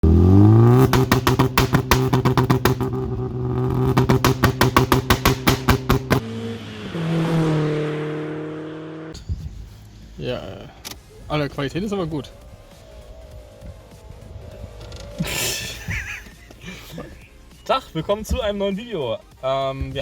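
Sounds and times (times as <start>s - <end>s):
car engine revving with exhaust pops: 0.0s - 10.2s, 10.8s - 18.8s.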